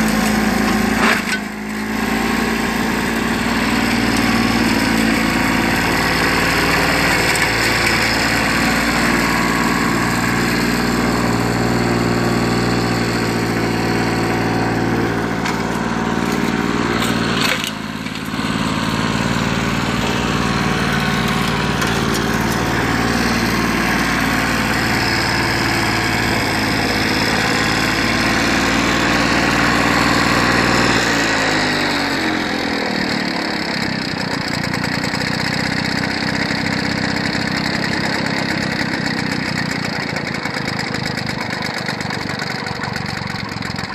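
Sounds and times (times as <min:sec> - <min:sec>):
lawnmower cutting grass: 0:00.0 - 0:43.9.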